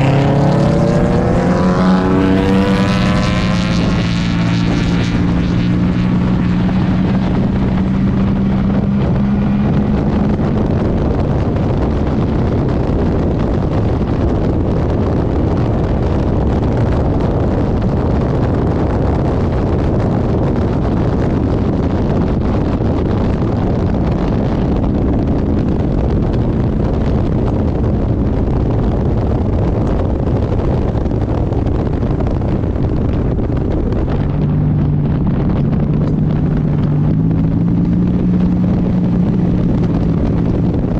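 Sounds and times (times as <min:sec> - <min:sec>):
race car engine running: 0:00.0 - 0:40.9
wind and road noise: 0:00.0 - 0:40.9.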